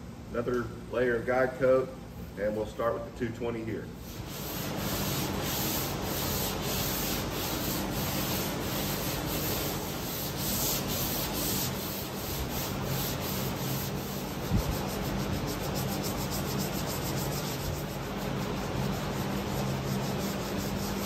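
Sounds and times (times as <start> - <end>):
sandpaper rubbing on metal: 4.0 - 21.0.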